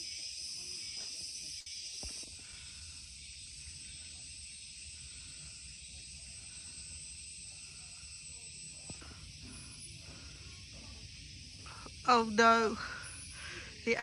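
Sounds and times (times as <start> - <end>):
forest insects buzzing: 0.0 - 14.0.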